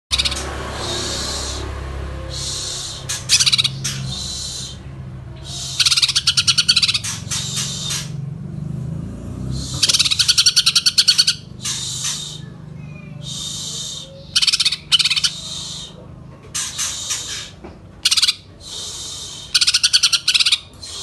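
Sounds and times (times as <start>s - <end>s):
bird singing fast repeated notes: 0.1s - 21.0s
steady low hum: 0.1s - 21.0s.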